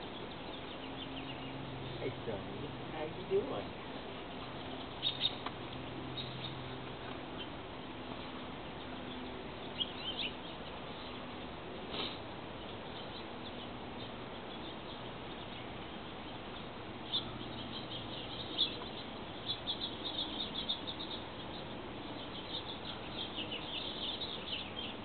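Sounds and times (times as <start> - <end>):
faint steady hiss: 0.0 - 25.0
small birds chirping: 0.0 - 25.0.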